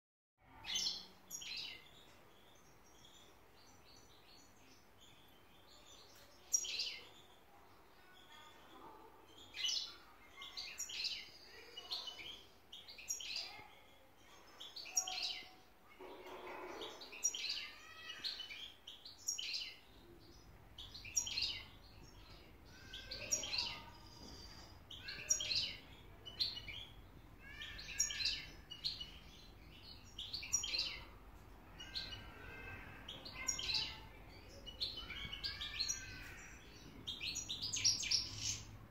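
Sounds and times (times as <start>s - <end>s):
finch twittering and chirping: 0.6s - 38.9s.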